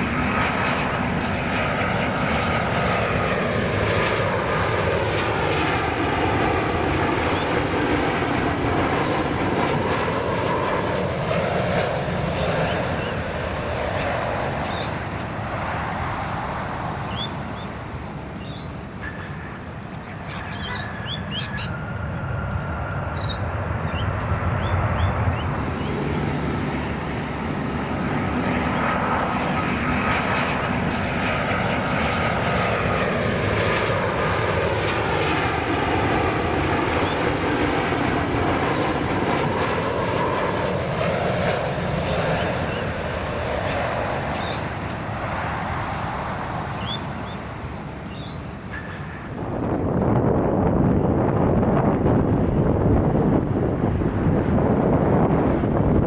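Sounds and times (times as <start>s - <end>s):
aircraft engine passing: 0.0s - 56.0s.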